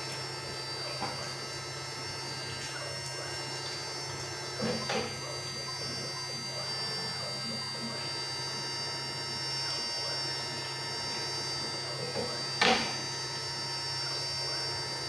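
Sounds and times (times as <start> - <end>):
spindle high whine: 0.0 - 15.0.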